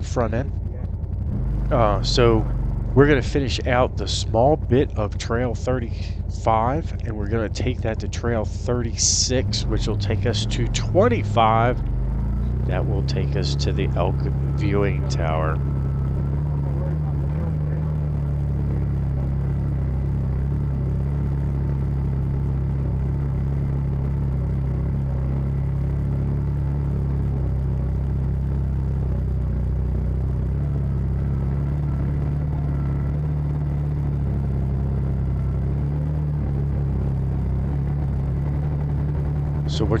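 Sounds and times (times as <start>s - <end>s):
engine running under load: 0.0s - 40.0s.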